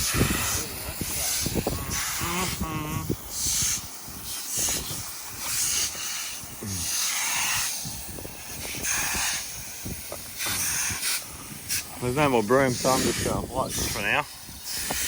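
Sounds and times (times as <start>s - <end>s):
stiff brooms scrubbing wet concrete: 0.0s - 15.0s.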